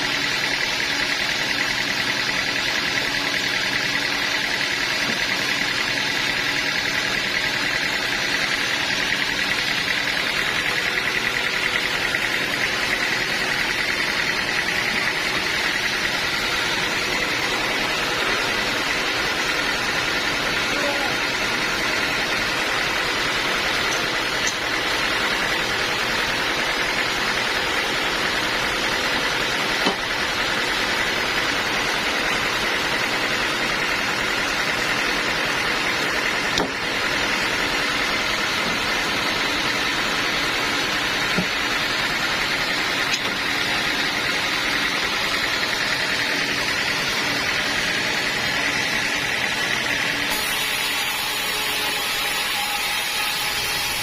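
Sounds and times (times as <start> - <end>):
band saw whining: 0.0 - 54.0.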